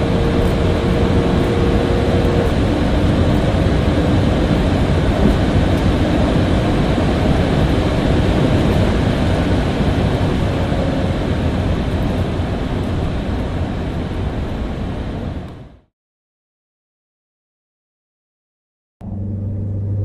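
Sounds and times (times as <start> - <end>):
car engine and road noise: 0.0 - 15.9, 19.0 - 20.0.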